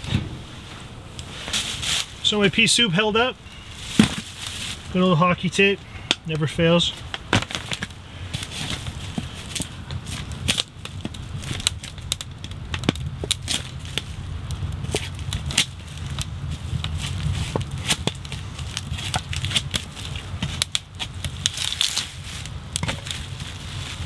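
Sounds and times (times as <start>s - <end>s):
crinkling and rustling of wrapping: 0.0s - 24.0s
low rumble of wind: 0.0s - 24.0s
wood fire crackling and popping: 0.0s - 24.0s.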